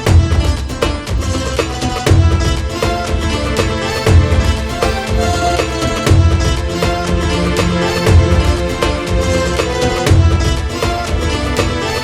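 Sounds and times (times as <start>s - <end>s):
folk instrumental music: 0.0s - 12.0s.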